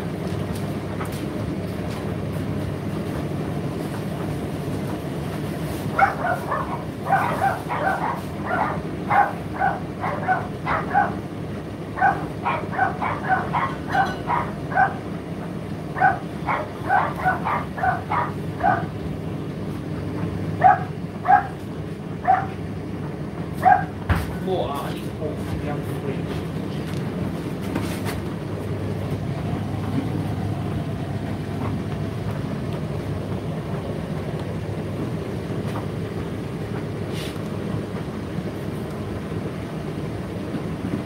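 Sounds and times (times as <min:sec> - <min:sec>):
tumble dryer humming: 0:00.0 - 0:41.0.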